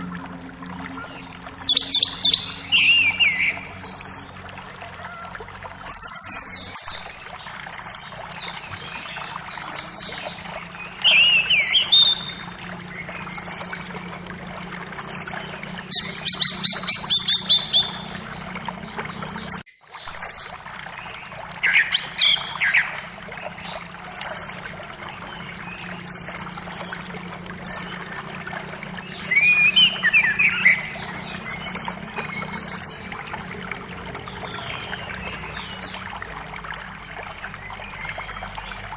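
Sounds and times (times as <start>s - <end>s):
birds calling with falling notes: 0.0s - 33.6s
creek rushing: 0.0s - 38.9s.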